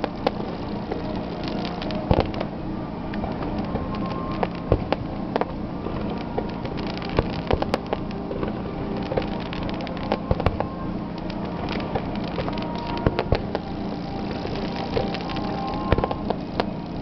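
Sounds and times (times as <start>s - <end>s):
continuous rumble: 0.0s - 17.0s
crackling pops: 0.0s - 17.0s
firework shells bursting: 0.0s - 17.0s.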